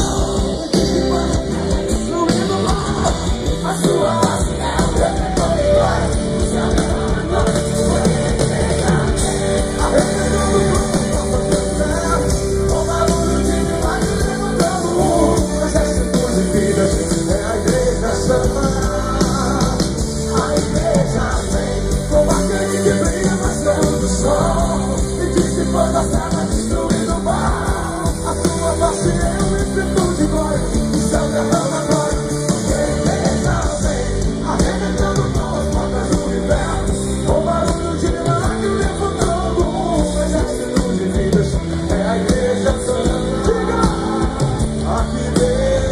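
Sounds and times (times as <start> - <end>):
lead singer singing: 0.0 - 45.9
live band playing pop-rock: 0.0 - 45.9.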